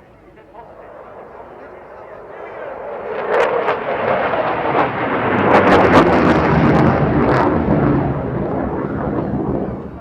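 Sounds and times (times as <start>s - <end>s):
fighter jet passing with crackle: 0.6s - 10.0s.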